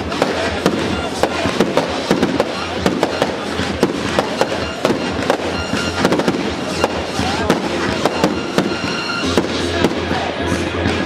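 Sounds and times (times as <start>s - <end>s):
fireworks shells bursting: 0.0s - 10.2s.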